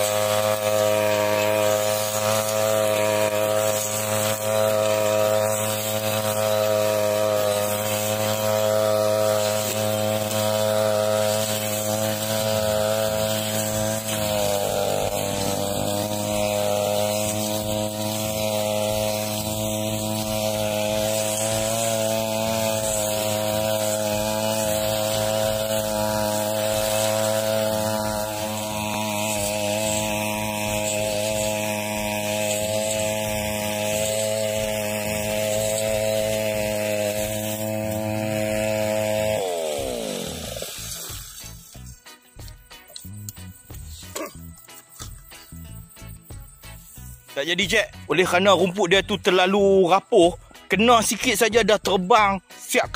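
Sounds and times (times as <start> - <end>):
blade cutting dry grass: 0.0 - 52.9
brush cutter engine running: 0.0 - 52.9.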